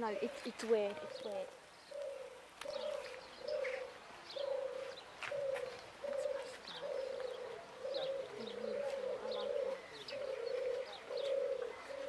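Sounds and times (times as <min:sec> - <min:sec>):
bird cooing: 0:00.0 - 0:12.0.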